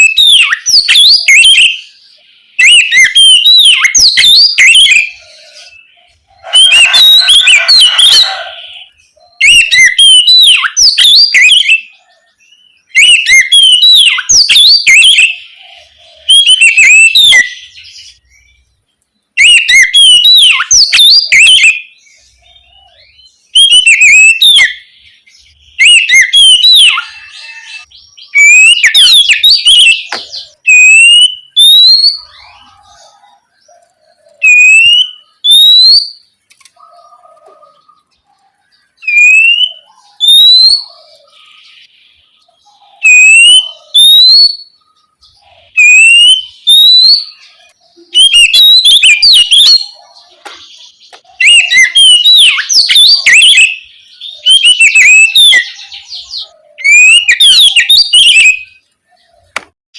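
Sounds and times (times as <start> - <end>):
bird singing whistled song: 0.0 - 59.5.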